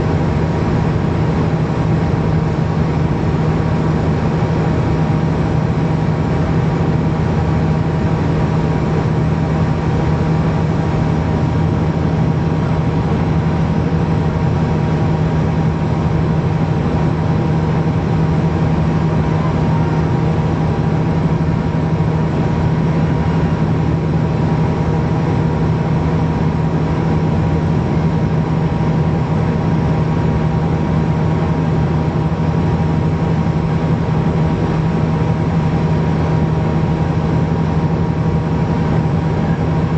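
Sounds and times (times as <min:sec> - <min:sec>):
turboprop cabin hum: 0:00.0 - 0:39.9.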